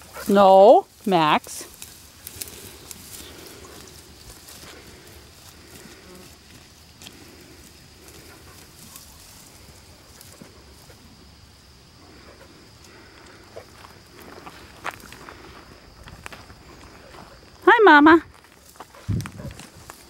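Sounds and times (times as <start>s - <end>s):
rustling through dry grass: 0.0s - 20.0s.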